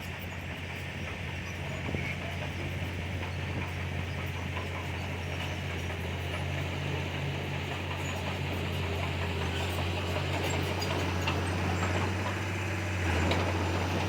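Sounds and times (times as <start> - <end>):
diesel machinery humming: 0.0 - 14.0.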